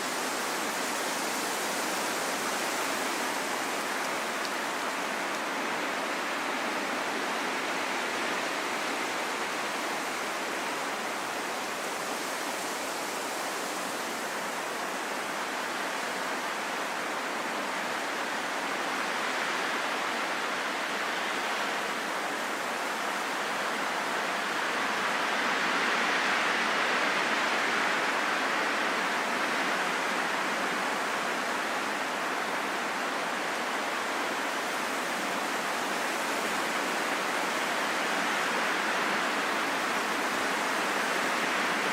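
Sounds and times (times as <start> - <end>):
heavy rain in a forest: 0.0 - 41.9.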